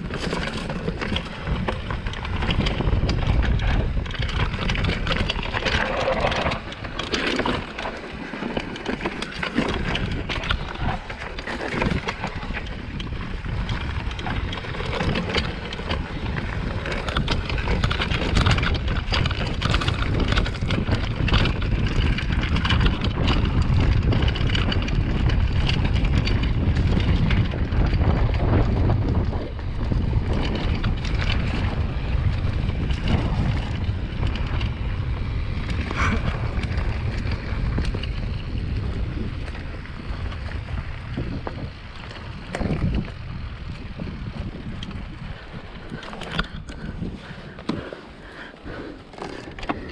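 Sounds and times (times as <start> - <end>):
bike rattling and knocking: 0.0 - 49.9
tyres crunching over rock: 0.0 - 49.9
wind buffeting microphone: 0.0 - 49.9.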